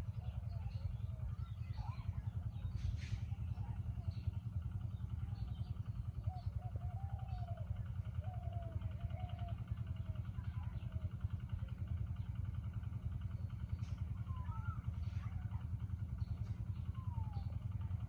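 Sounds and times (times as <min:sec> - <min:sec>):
engine chugging: 0:00.0 - 0:18.0
small birds chirping: 0:00.0 - 0:18.0.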